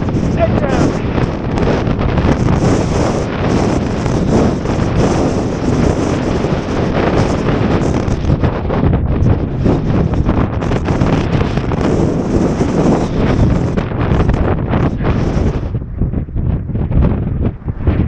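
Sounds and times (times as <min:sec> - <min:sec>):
strong gusting wind on microphone: 0:00.0 - 0:18.0.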